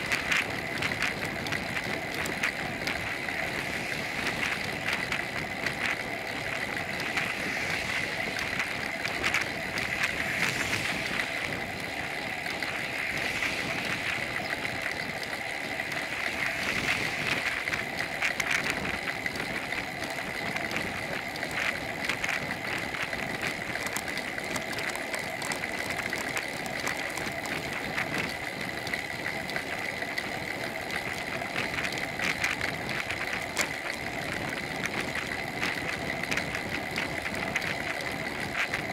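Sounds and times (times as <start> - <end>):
bicycle tyre noise on asphalt: 0.0 - 38.9
bike rattles and clicks: 0.0 - 38.9
wind rush: 0.0 - 38.9.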